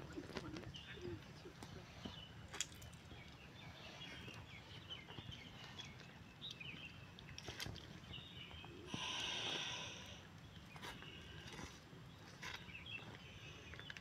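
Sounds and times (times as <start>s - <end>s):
faint outdoor hush: 0.0s - 14.0s
small birds chirping: 0.0s - 14.0s.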